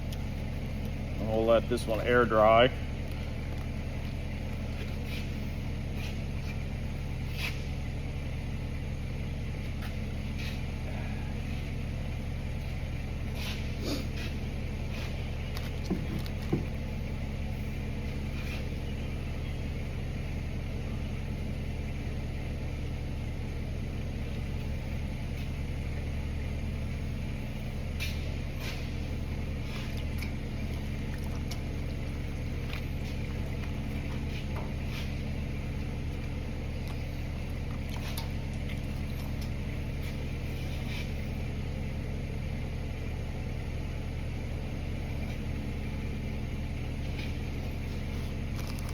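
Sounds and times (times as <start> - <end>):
low machine hum: 0.0 - 48.9.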